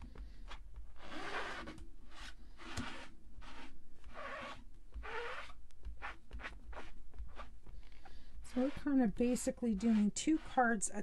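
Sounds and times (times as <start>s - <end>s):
cloth rubbing on rubber stamp: 0.2s - 11.0s.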